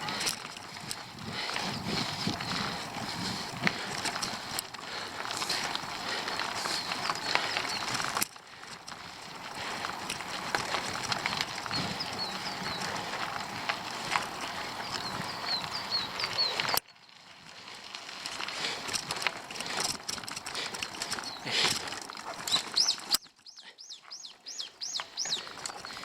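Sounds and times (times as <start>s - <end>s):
bicycle clicks and ticks: 0.0s - 26.0s
tyres crunching over gravel: 0.0s - 26.0s.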